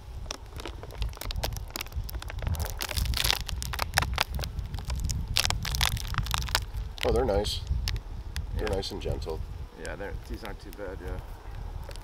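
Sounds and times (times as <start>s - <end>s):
cover peeled off crackling and tearing: 0.0s - 12.0s.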